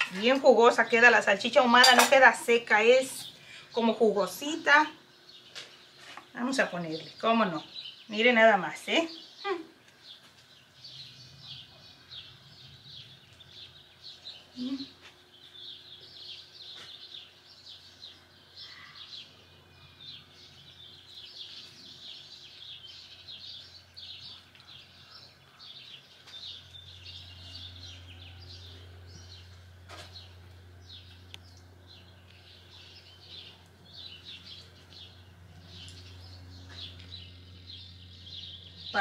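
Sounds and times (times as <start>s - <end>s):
birds chirping: 0.0s - 39.0s
steady low hum: 0.0s - 39.0s.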